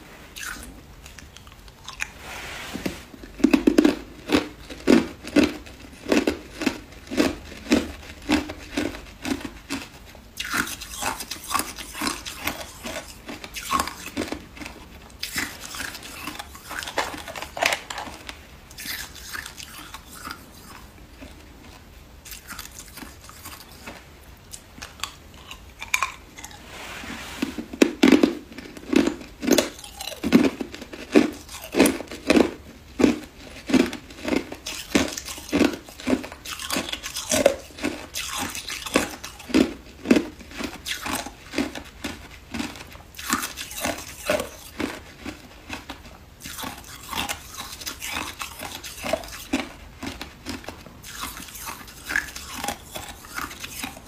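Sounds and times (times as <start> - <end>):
ice being chewed: 0.3 - 26.8, 27.7 - 54.0.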